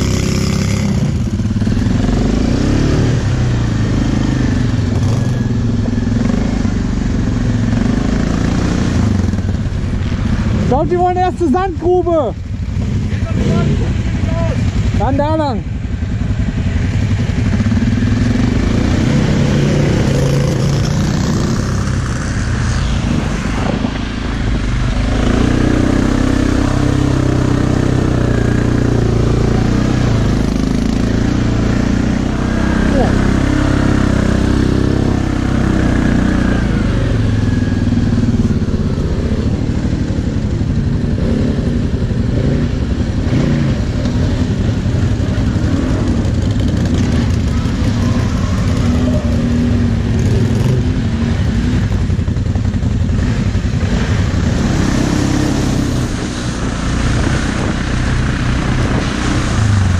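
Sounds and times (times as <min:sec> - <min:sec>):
atv engine revving: 0:00.0 - 0:59.9
other quad engines: 0:00.0 - 0:59.9.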